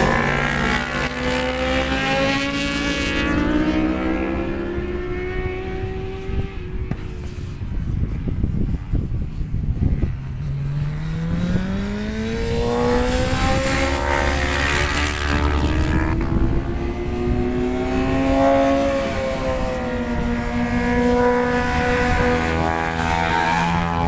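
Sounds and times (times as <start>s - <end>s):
racing motorcycle engine: 0.0s - 24.0s
wind on microphone: 0.0s - 24.0s.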